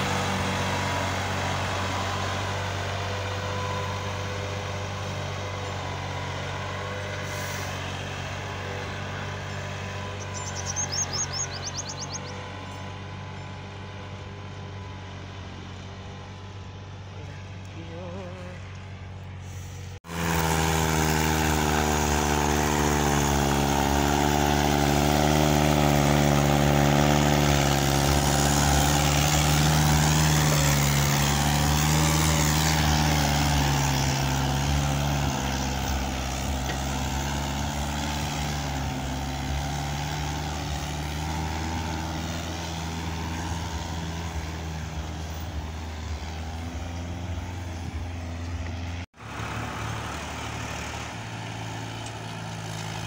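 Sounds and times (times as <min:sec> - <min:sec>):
tractor diesel engine labouring: 0:00.0 - 0:53.0.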